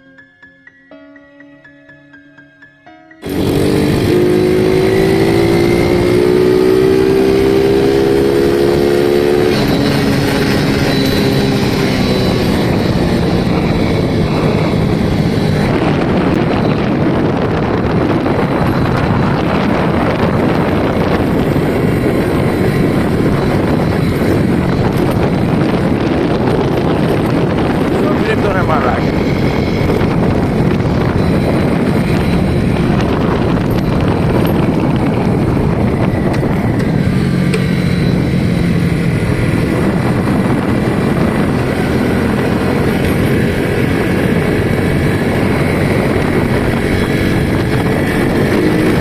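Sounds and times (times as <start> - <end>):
loud rushing noise: 3.2 - 49.0
motorcycle engine accelerating: 3.2 - 49.0.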